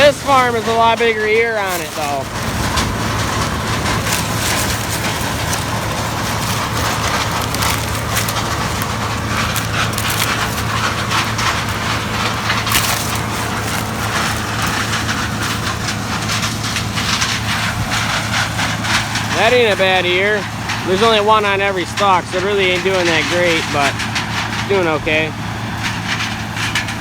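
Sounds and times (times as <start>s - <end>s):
dry leaves crackling and rustling: 0.0s - 27.0s
machine engine running: 0.0s - 27.0s.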